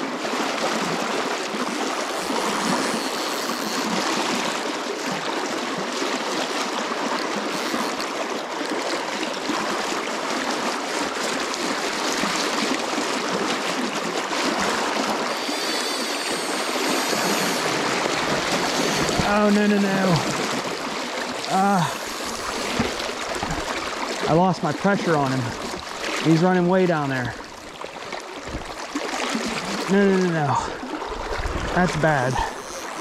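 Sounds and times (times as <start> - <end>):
creek water rushing: 0.0 - 33.0.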